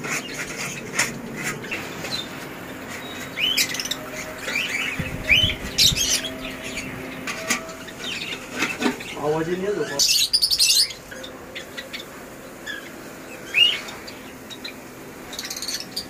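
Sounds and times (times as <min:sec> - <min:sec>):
caged birds calling: 0:00.0 - 0:16.0.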